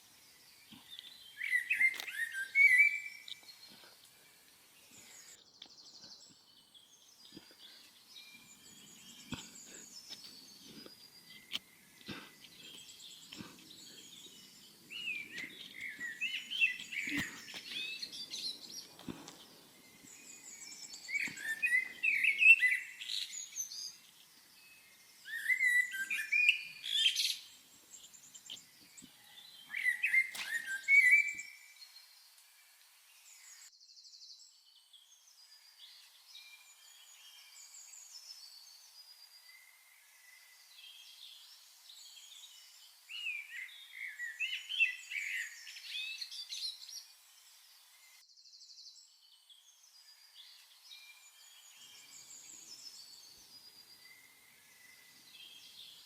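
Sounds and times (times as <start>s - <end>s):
wild birds chirping and singing: 0.0s - 56.0s.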